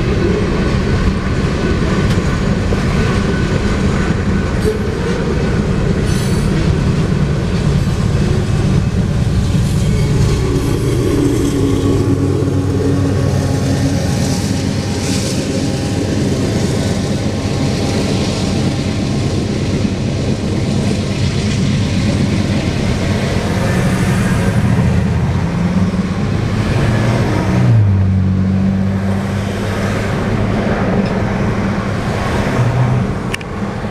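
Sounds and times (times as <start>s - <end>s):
car and truck engines: 0.0s - 33.9s
tyres on road: 0.0s - 33.9s.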